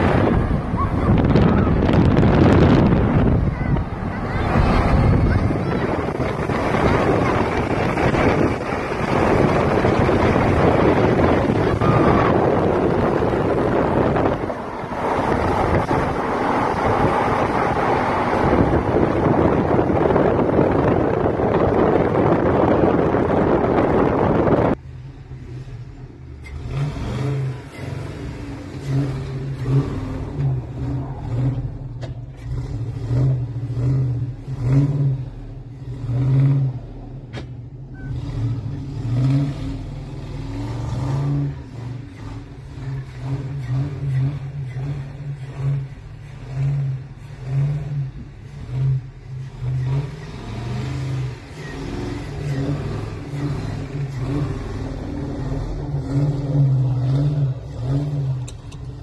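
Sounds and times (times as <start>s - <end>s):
truck engine revving: 0.0s - 59.0s.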